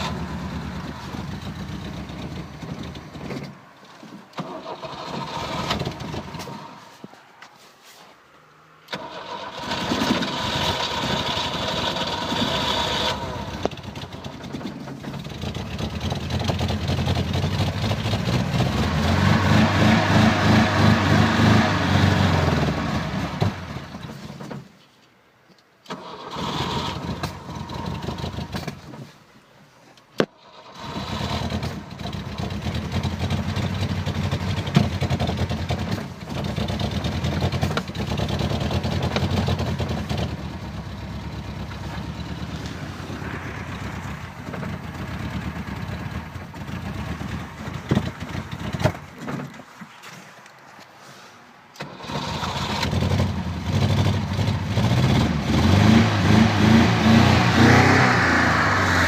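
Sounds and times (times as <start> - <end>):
engine running rhythmically: 0.0 - 3.6, 9.0 - 24.6, 26.3 - 29.1, 30.3 - 49.6, 51.8 - 59.0
engine start attempts: 0.0 - 7.0, 8.9 - 24.8, 25.8 - 29.2, 30.2 - 50.0, 51.7 - 55.3.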